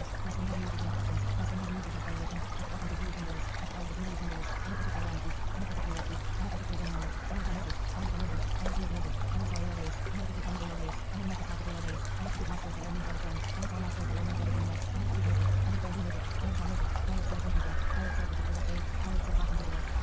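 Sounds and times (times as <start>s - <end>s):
constant low hum: 0.0s - 20.0s
running water: 0.0s - 20.0s.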